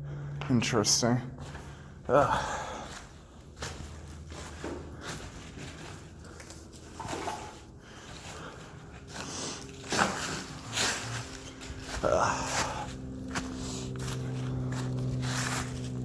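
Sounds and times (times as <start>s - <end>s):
footsteps crunching on littered floor: 0.1s - 16.0s.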